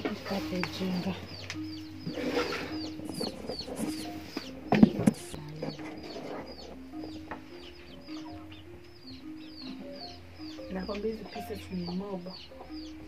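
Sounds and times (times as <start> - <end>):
chickens clucking: 0.0 - 13.0
high falling peeps: 0.0 - 13.0.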